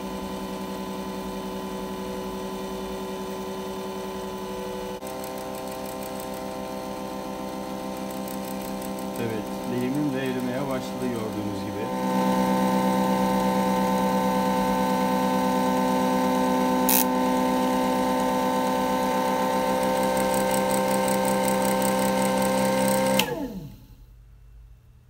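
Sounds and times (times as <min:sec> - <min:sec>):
electric motor whine: 0:00.1 - 0:23.8.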